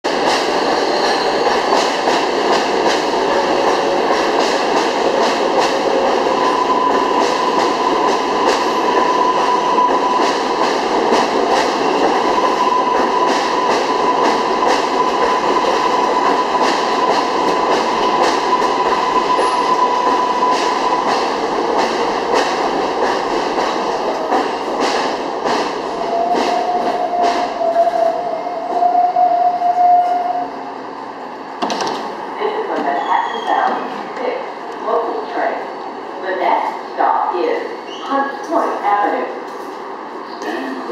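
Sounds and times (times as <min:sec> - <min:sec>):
subway train running: 0:00.0 - 0:40.9.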